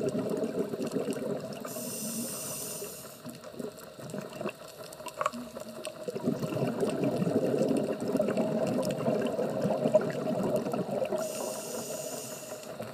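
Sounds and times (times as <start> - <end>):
underwater bubbling: 0.0 - 12.9.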